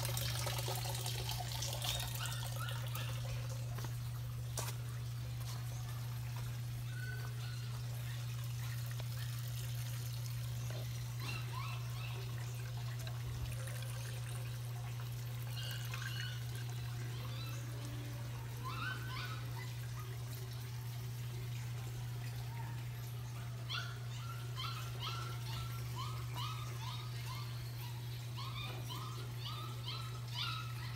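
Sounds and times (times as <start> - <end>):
water trickling: 0.0 - 30.8.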